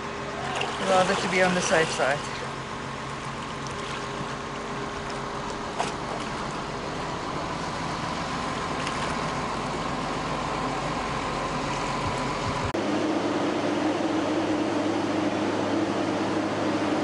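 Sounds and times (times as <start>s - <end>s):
diesel engine idling with whine: 0.0s - 17.0s.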